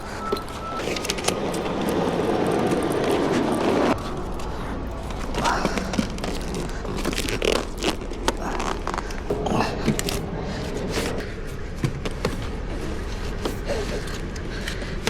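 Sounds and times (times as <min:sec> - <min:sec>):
luggage scraping: 0:00.0 - 0:15.0
steady low hum: 0:00.0 - 0:15.0.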